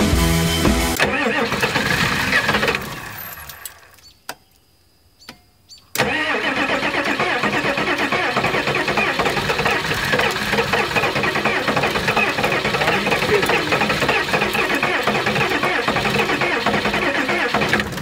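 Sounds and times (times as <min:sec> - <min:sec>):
diesel engine cranking on starter: 0:01.0 - 0:04.0, 0:05.9 - 0:18.0.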